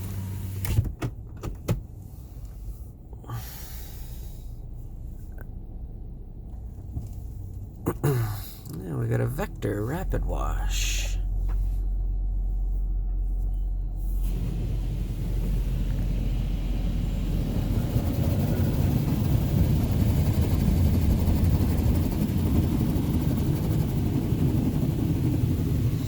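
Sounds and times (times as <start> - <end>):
car wash machinery rumble: 0.0 - 26.0
low cabin hum: 0.0 - 26.0.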